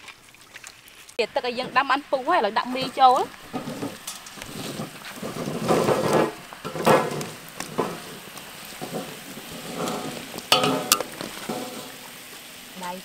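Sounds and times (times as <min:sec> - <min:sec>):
water boiling hard in a wok: 0:01.1 - 0:13.0.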